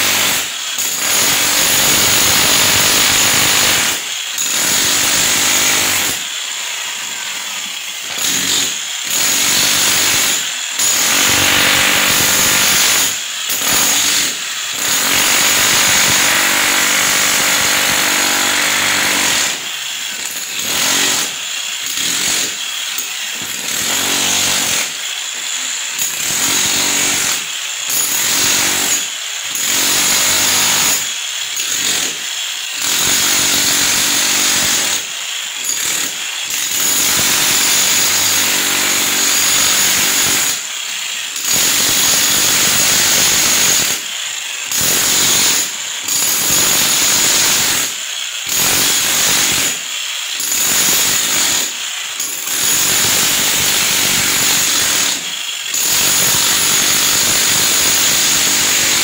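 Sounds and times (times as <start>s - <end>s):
electric power tool running: 0.0s - 59.0s.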